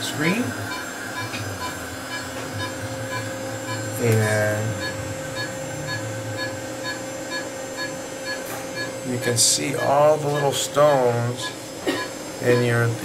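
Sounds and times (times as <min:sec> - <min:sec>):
electrical hum of equipment: 0:00.0 - 0:13.0.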